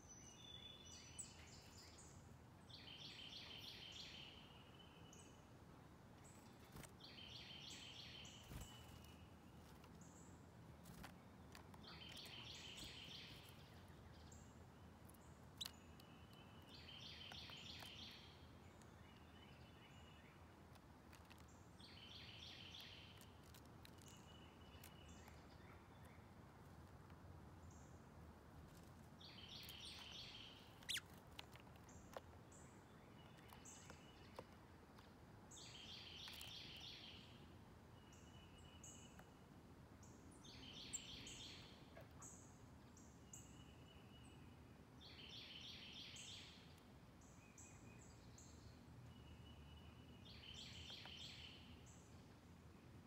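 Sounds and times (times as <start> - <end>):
outdoor background hiss: 0.0 - 53.0
songbird singing: 0.0 - 53.0.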